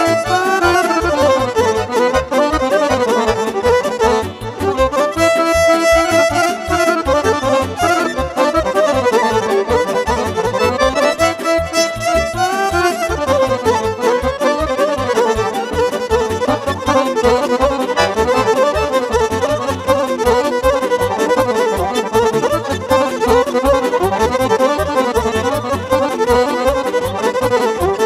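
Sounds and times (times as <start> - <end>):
accordion fast melody: 0.0 - 28.0
keyboard backing beat: 0.0 - 28.0.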